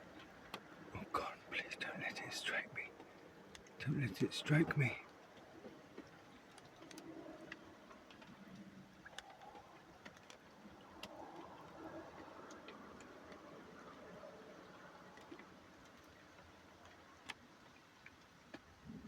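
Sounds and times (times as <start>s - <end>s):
faint irregular clicks: 0.0s - 19.0s
low background hiss: 0.0s - 19.0s.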